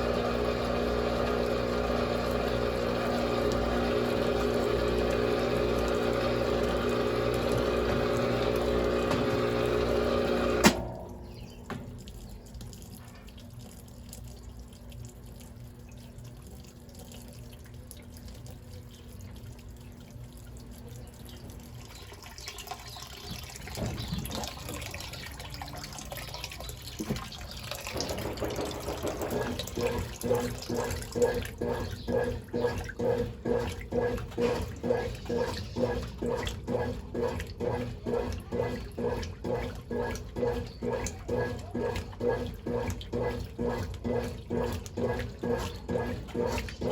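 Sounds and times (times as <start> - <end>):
washing machine agitator sloshing: 0.0 - 46.9
washing machine filling with water: 0.0 - 46.9.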